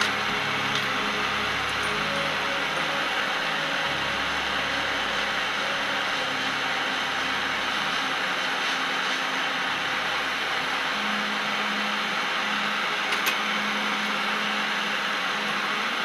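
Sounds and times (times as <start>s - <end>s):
hand torch hissing: 0.0s - 12.8s.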